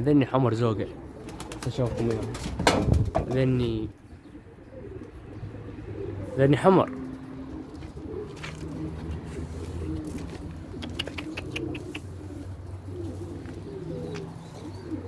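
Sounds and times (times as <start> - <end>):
pigeons cooing: 0.6 - 15.0.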